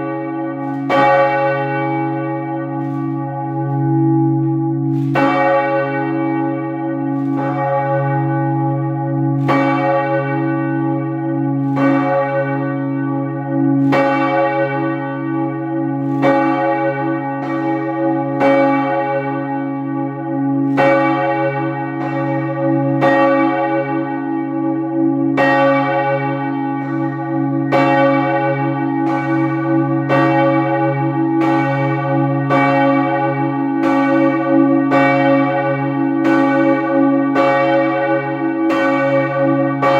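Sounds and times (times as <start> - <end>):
heavy church bells ringing: 0.0 - 39.9.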